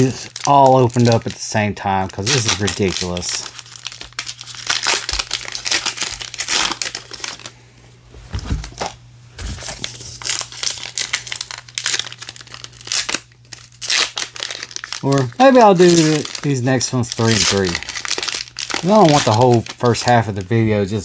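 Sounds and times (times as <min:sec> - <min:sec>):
card pack wrappers crinkling and tearing: 0:00.0 - 0:07.6, 0:08.4 - 0:21.0.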